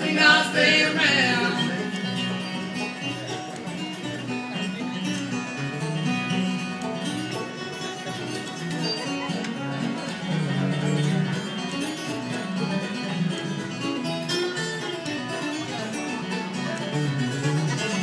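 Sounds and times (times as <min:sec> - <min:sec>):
bluegrass band playing: 0:00.0 - 0:18.0
picked acoustic guitar: 0:00.0 - 0:18.0.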